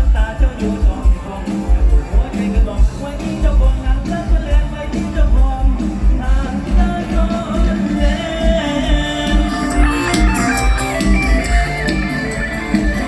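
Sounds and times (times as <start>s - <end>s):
person singing: 0.0s - 13.0s
steady bass drum beat: 0.0s - 13.0s.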